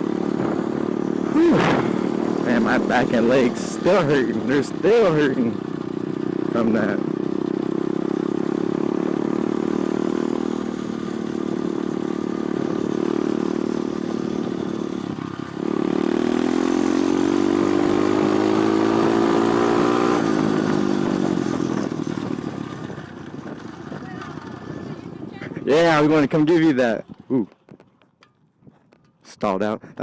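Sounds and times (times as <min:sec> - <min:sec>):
motorbike engine running: 0:00.0 - 0:29.2.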